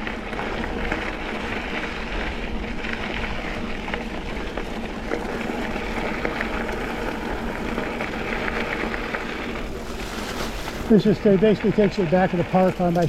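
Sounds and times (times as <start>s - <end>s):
bike rattles and ticks: 0.0s - 13.0s
bike tyres rolling on dirt: 0.0s - 13.0s.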